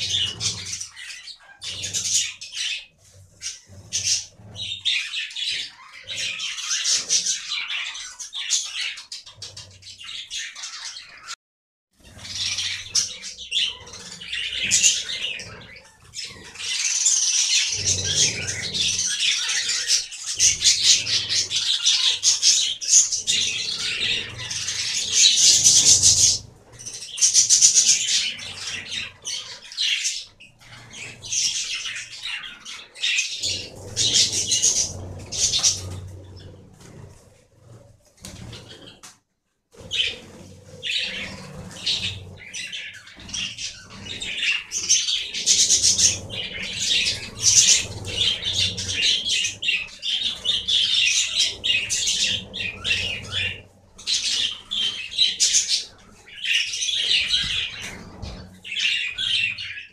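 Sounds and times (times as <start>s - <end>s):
budgerigars chattering: 0.0s - 11.4s, 12.0s - 37.0s, 39.8s - 59.9s.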